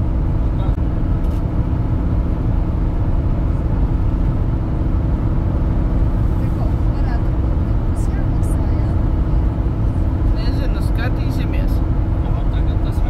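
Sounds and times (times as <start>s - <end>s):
road rumble: 0.0s - 13.0s
van engine hum: 0.0s - 13.0s.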